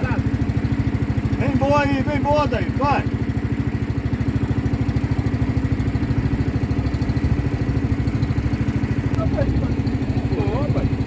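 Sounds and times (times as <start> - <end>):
motorboat engine chugging: 0.0 - 11.0.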